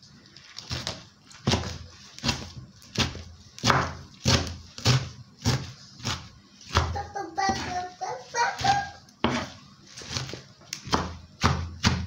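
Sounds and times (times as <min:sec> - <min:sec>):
knife chopping on wooden board: 0:00.7 - 0:07.8, 0:08.5 - 0:12.0.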